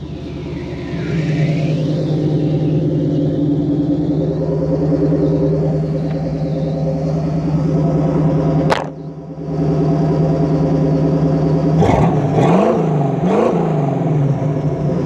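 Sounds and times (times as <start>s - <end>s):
engine idling: 0.0s - 15.0s
engine revving: 0.0s - 15.0s.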